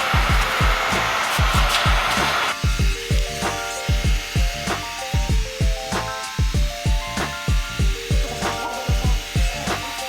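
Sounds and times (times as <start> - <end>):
electronic music with kick drums: 0.0 - 10.0
heat gun blowing hiss: 0.0 - 10.0.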